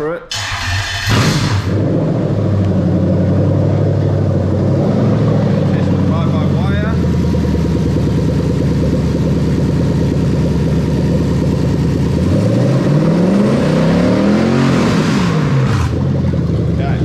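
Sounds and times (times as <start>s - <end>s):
engine idling and revving: 0.3s - 17.0s.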